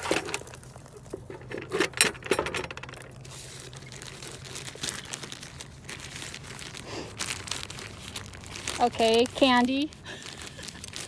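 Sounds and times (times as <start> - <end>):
crinkling and rustling of wrapped objects: 0.0 - 11.0.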